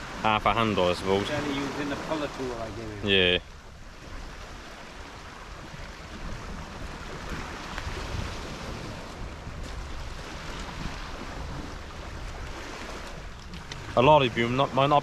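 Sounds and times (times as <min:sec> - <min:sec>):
small waves washing on shore: 0:00.0 - 0:15.0
wind rumbling on microphone: 0:00.0 - 0:15.0.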